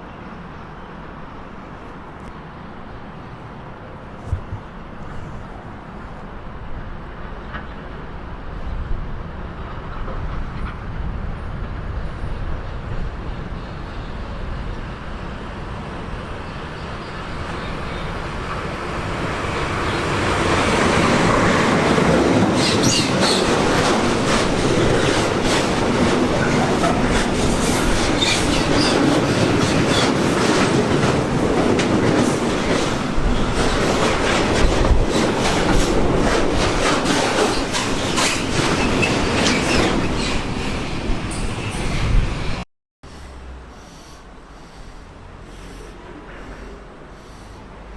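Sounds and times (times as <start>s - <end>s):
train passing: 0.0s - 47.9s.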